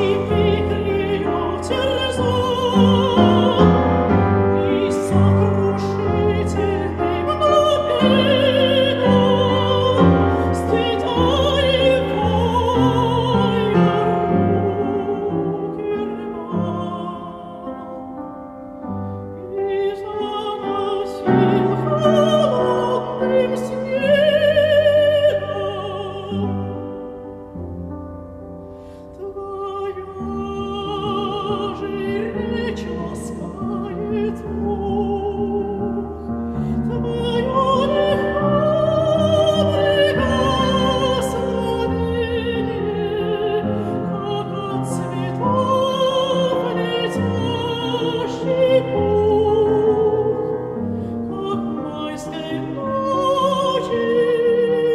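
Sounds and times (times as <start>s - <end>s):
operatic soprano singing: 0.0s - 27.6s, 28.8s - 54.9s
piano accompaniment: 0.0s - 54.9s.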